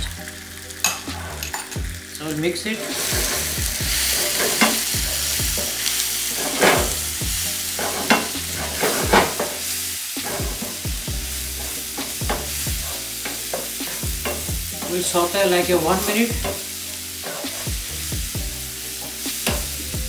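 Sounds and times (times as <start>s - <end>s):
food sizzling in hot oil: 0.0s - 20.0s
wooden spoon scraping a pan: 2.6s - 19.9s.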